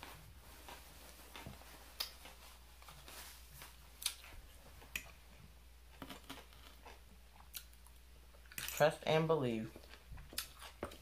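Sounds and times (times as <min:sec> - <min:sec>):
salad being chewed: 0:00.0 - 0:08.7, 0:09.7 - 0:11.0.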